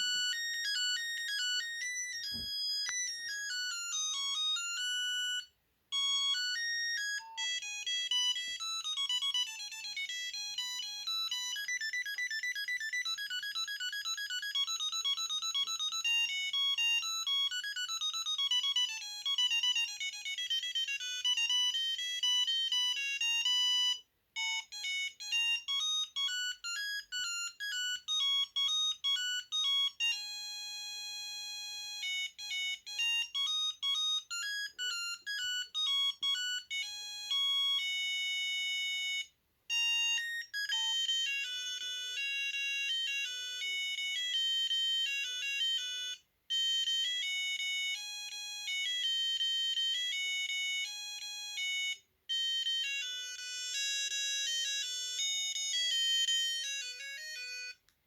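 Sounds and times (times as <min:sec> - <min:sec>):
phone ringtone melody: 0:00.0 - 0:57.8.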